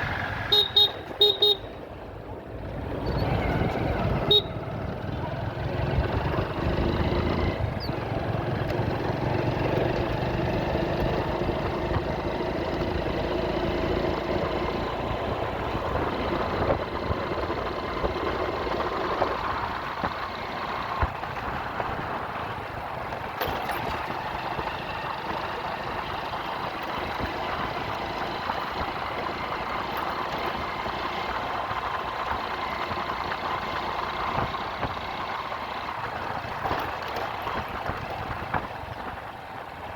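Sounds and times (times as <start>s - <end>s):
motorcycle engine running: 0.0s - 39.9s
road and traffic noise: 0.0s - 39.9s.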